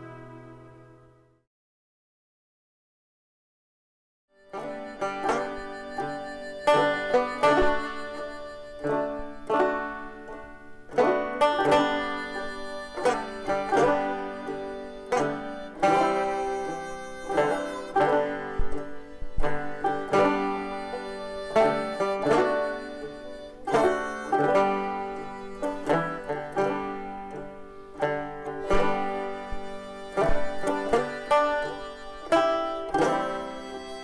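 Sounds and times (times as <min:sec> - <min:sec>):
plucked string instrument: 0:00.0 - 0:01.2, 0:04.4 - 0:34.0.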